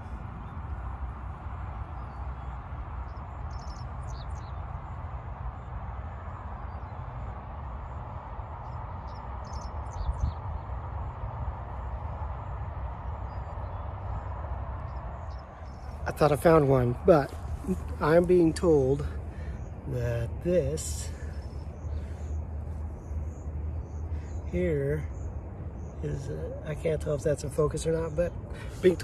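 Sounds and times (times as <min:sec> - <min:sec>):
birds chirping: 0:00.0 - 0:29.0
steady low rumble: 0:00.0 - 0:29.0.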